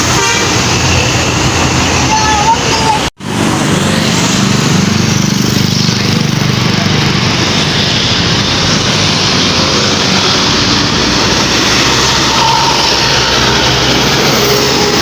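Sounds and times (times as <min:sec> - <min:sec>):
bus diesel engine humming: 0:00.0 - 0:15.0
road noise: 0:00.0 - 0:15.0.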